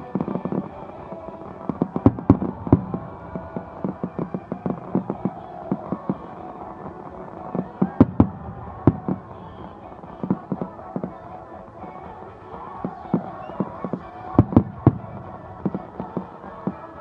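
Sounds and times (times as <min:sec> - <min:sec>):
faint music: 0:00.0 - 0:17.0
fireworks bursting: 0:00.0 - 0:17.0.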